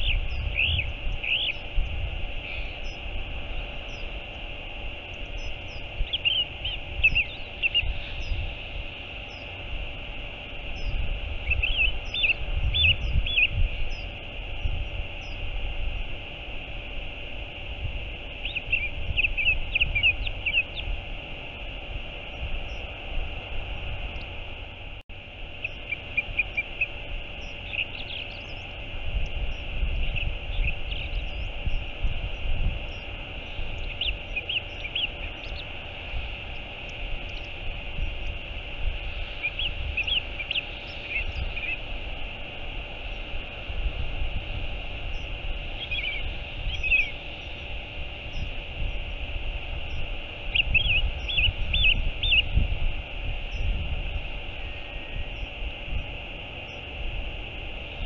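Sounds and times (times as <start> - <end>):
gulls calling: 0.0 - 58.0
small birds chirping: 0.0 - 58.0
wind: 0.0 - 58.0.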